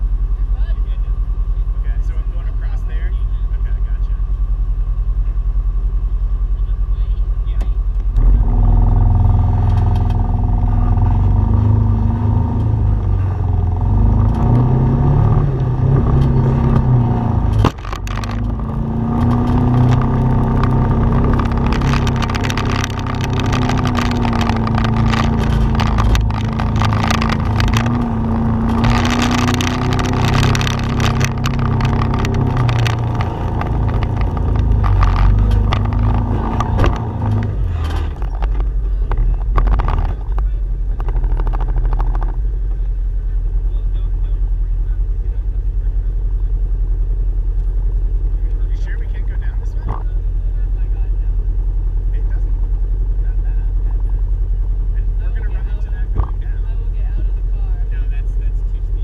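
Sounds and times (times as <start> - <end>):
off-road vehicle engine running: 0.0 - 59.0.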